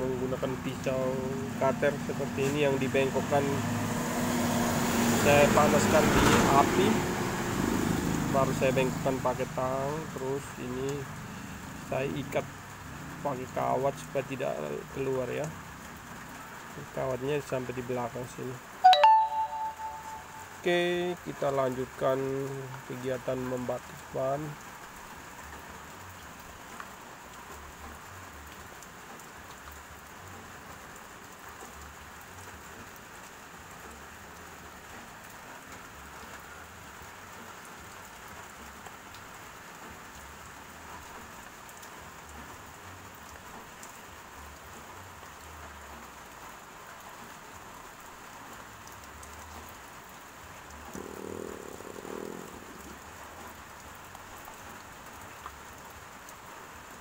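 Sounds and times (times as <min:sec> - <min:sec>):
rustle: 0:02.3 - 0:13.8, 0:19.4 - 0:57.0.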